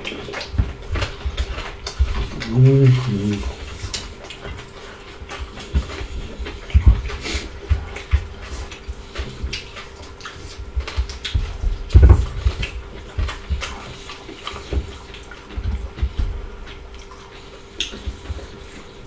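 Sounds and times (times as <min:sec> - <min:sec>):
small clicks and smacks: 0:00.0 - 0:18.6
chewing and wet mouth sounds: 0:00.0 - 0:19.0
faint steady hum: 0:00.0 - 0:19.0.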